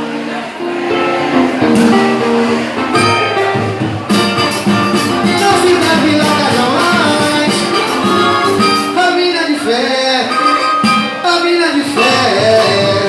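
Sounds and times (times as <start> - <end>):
latin band playing instrumental: 0.0 - 13.0.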